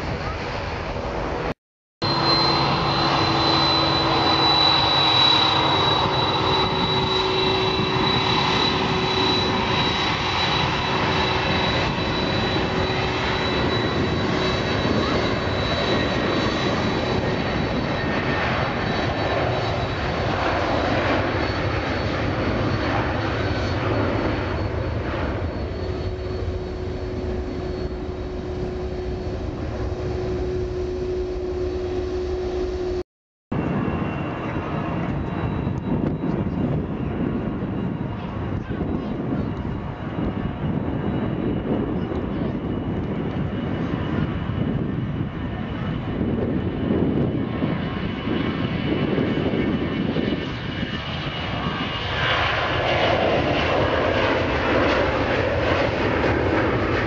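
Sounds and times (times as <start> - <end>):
jet engines rushing with high whine: 0.0 - 57.0.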